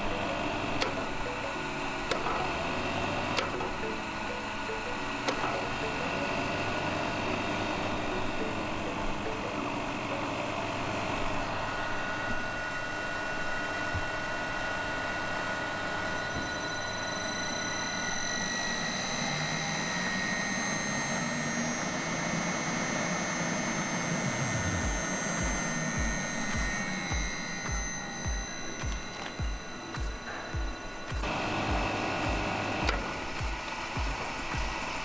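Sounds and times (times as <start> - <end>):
high-pitched whining tones: 0.0 - 35.0
machine mechanical hum: 0.0 - 35.0.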